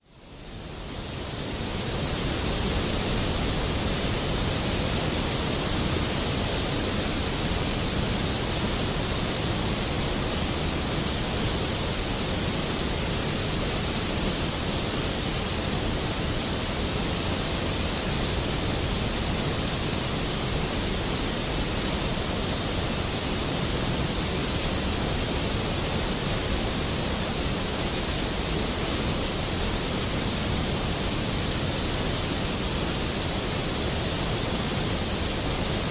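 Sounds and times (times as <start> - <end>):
water rushing through spillway: 0.3 - 35.9.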